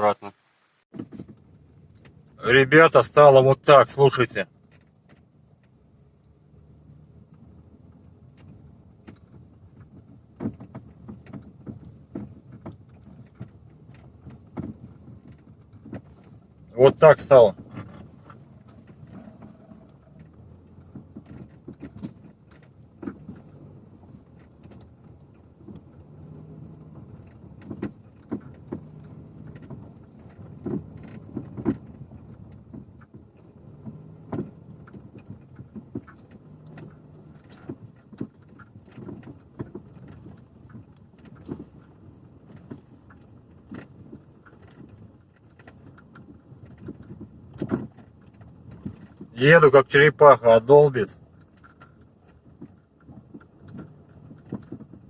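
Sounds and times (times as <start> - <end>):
car engine and road noise: 0.0 - 55.0
steering knocking: 0.9 - 55.0.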